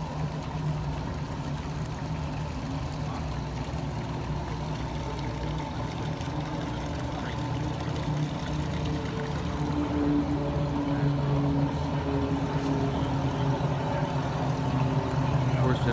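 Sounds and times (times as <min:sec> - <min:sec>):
outboard engines running: 0:00.0 - 0:15.9.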